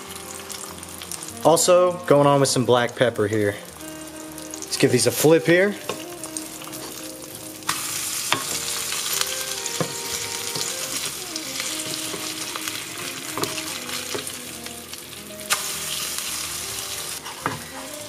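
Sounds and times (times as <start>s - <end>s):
eggs sizzling in frying pan: 0.0s - 18.0s.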